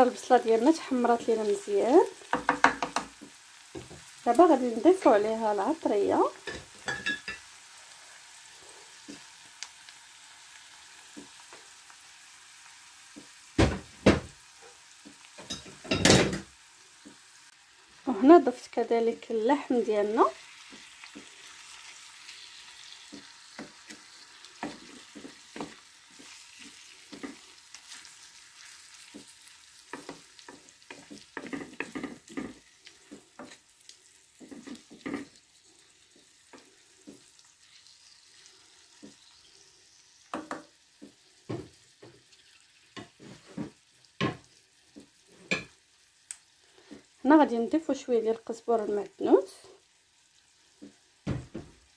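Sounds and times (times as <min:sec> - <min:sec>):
meat and onion sizzling in oil: 0:00.0 - 0:51.9.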